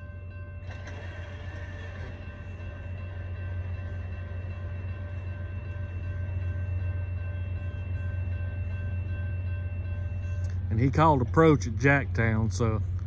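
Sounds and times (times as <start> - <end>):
crossing warning bell ringing: 0.0 - 13.0
diesel locomotive rumble: 0.0 - 13.0.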